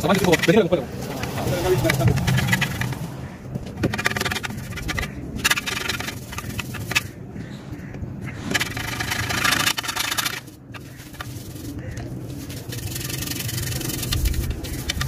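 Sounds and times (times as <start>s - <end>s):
brush scrubbing metal: 0.0s - 3.2s, 3.8s - 7.2s, 8.5s - 15.0s
steady low hum: 0.0s - 15.0s.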